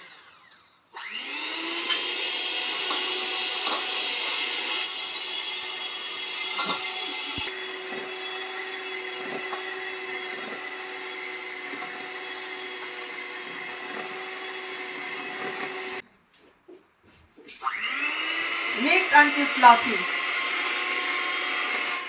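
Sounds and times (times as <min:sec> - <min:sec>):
electric mixer motor hum: 0:00.0 - 0:16.0, 0:17.6 - 0:22.0.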